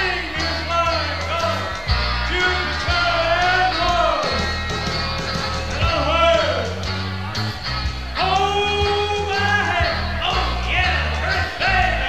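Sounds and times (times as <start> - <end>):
rock and roll band with singing: 0.0 - 12.0.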